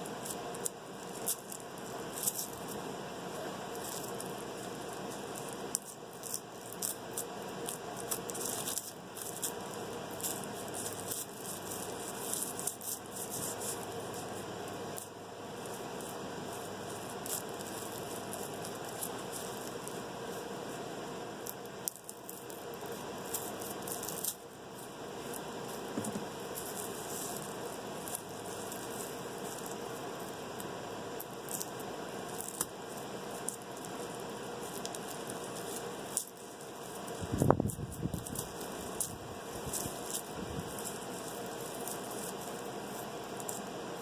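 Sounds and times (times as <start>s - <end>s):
background hiss: 0.0s - 44.0s
garlic skins crackling: 0.0s - 44.0s.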